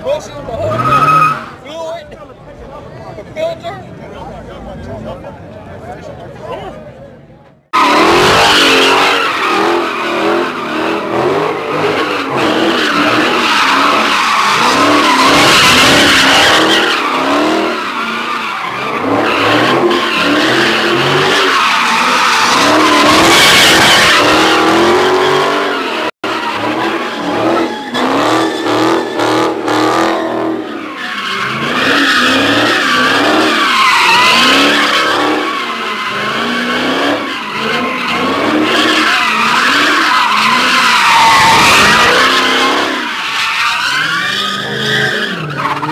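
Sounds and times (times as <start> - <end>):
tires squealing: 0.0 - 2.0, 7.7 - 45.9
car engine revving: 7.7 - 45.9.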